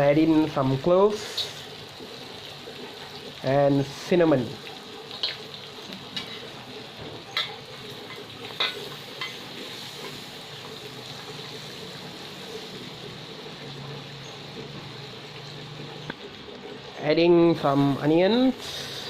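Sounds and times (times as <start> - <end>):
spices sizzling in butter: 0.0 - 19.0.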